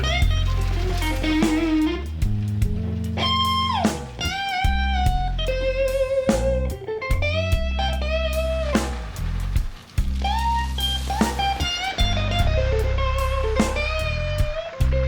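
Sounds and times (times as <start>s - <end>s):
bass line: 0.0s - 15.0s
blues-rock electric guitar lead: 0.0s - 15.0s
drums: 0.0s - 15.0s.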